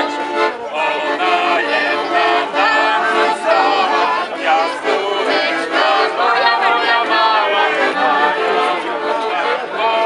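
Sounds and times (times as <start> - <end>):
accordion playing folk tune: 0.0 - 10.0
group of people singing: 0.0 - 10.0.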